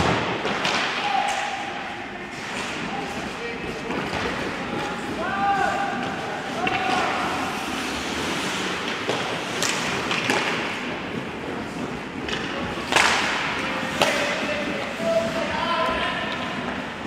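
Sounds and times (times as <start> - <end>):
hockey sticks and puck clacking: 0.0 - 17.0
skates scraping on ice: 0.4 - 17.0.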